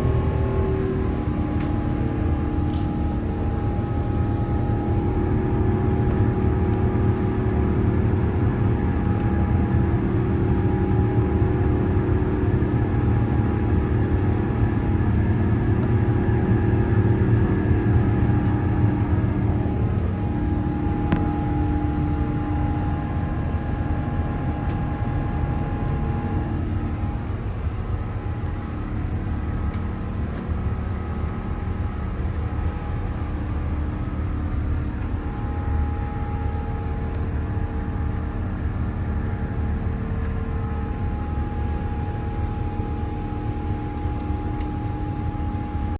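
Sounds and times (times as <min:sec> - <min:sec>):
jet engines roaring: 0:00.0 - 0:11.2, 0:17.3 - 0:45.9.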